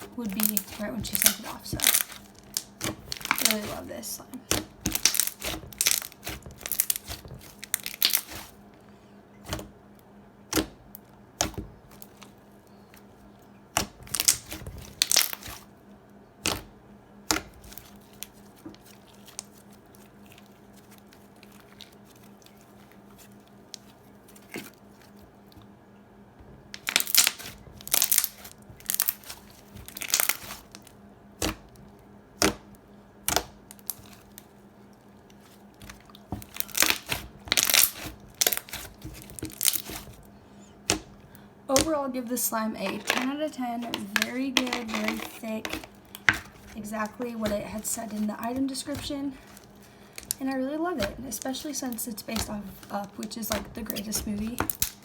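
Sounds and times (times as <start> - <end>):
slime being squished by hand: 0.0 - 8.6, 10.5 - 15.7, 16.4 - 25.3, 26.8 - 34.7, 35.3 - 40.2, 43.8 - 55.0.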